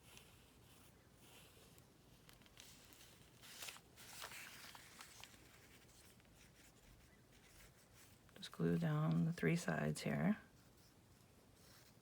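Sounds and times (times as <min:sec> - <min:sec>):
paper scratching and rustling: 0:00.0 - 0:09.4, 0:10.5 - 0:12.0.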